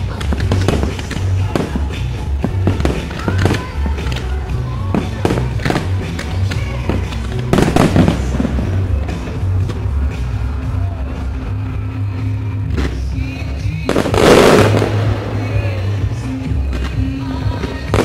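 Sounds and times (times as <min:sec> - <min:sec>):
fireworks bursting: 0:00.0 - 0:18.0
music with steady bass: 0:00.0 - 0:18.0.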